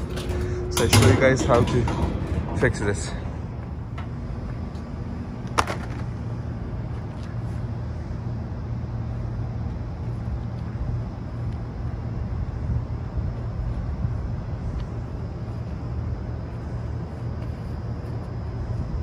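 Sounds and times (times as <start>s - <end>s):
air-conditioning equipment humming: 0.0s - 19.0s.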